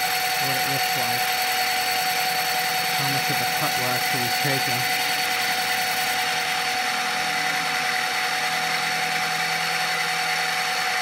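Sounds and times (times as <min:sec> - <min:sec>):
milling machine cutting: 0:00.0 - 0:11.0.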